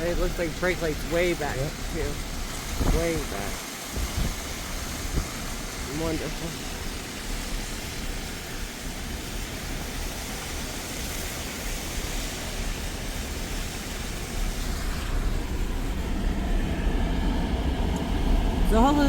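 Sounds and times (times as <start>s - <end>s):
truck rumbling inside cab: 0.0s - 19.0s.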